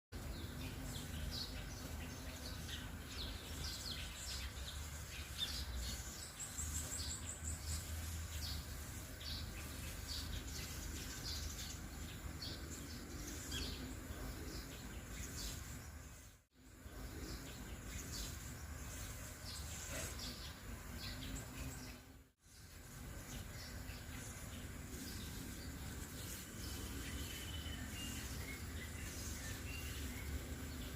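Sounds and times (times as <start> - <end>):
birds chirping: 0.1 - 30.9.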